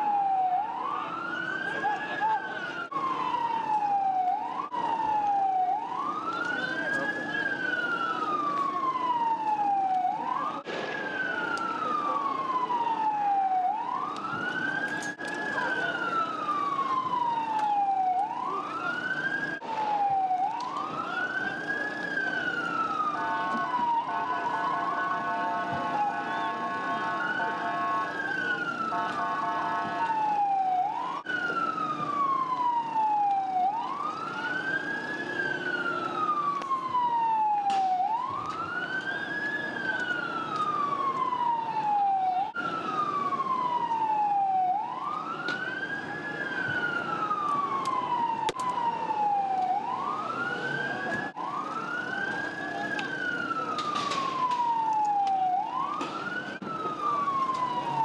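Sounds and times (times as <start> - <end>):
ambulance siren wailing: 0.0 - 58.0.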